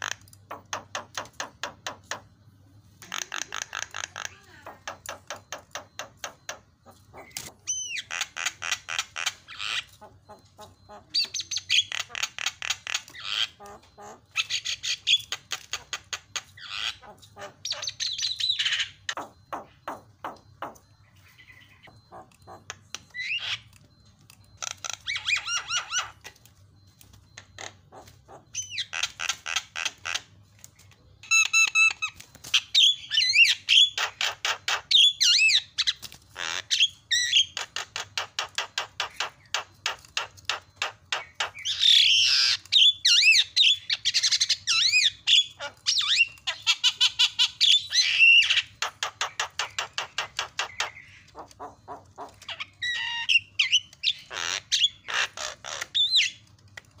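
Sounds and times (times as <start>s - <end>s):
bird singing trills and squawks: 0.0s - 57.0s.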